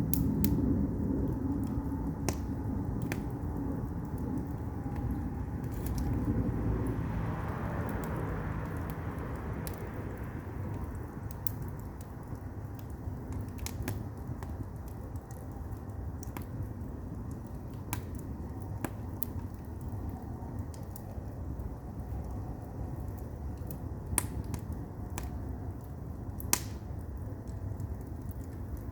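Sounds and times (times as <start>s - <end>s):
logs popping and crackling: 0.0s - 28.9s
low rumble of flame: 0.0s - 28.9s.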